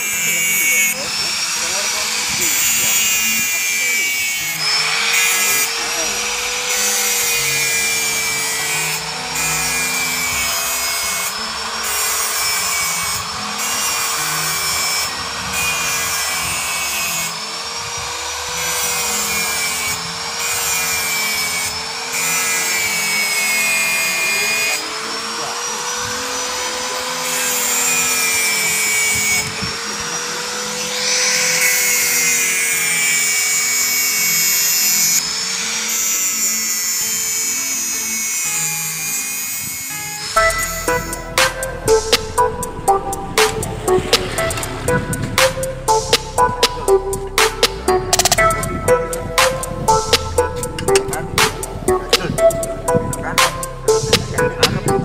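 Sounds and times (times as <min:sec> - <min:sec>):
angle grinder whining: 0:00.0 - 0:55.0
grinder grinding metal: 0:00.0 - 0:55.0.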